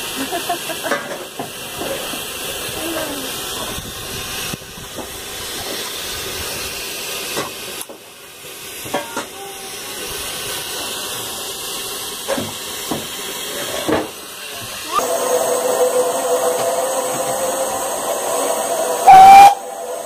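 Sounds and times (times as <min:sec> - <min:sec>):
steam hissing from locomotive: 0:00.0 - 0:20.0.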